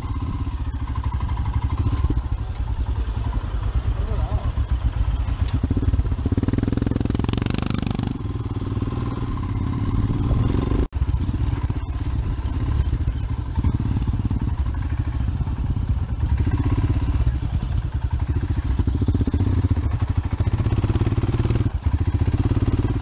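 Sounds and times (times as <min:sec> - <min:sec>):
single-cylinder motorcycle engine: 0:00.0 - 0:23.0.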